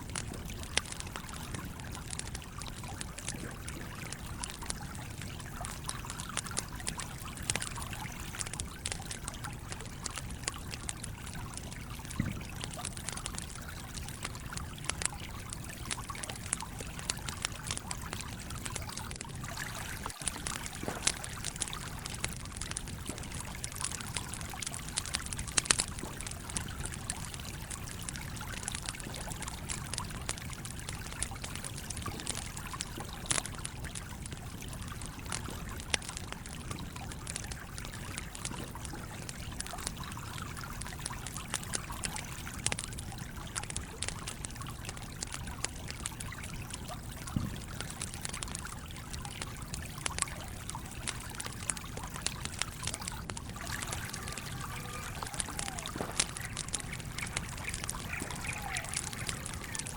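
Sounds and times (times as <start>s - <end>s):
campfire crackling and snapping: 0.0s - 59.9s
small stream flowing: 0.0s - 59.9s.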